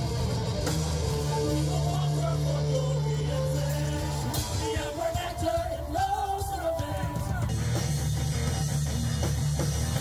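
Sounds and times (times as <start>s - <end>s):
heavy metal band playing: 0.0s - 10.0s.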